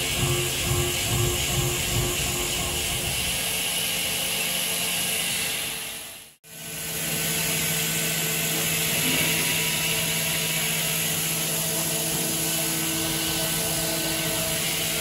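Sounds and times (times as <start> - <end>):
milling spindle whine: 0.0 - 15.0.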